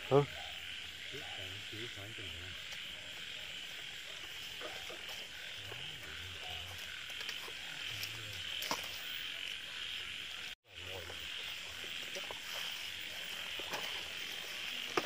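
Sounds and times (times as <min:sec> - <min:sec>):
frogs croaking: 0:00.0 - 0:15.0
insects chorus: 0:00.0 - 0:15.0.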